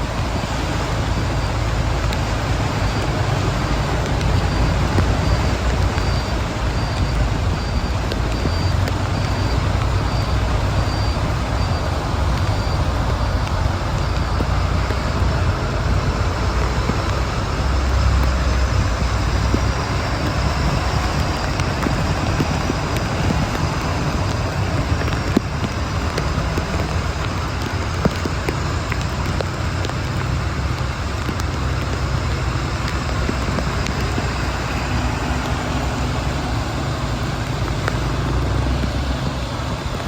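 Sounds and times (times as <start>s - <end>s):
road traffic on flooded street: 0.0s - 40.0s
vehicles passing: 0.0s - 40.0s.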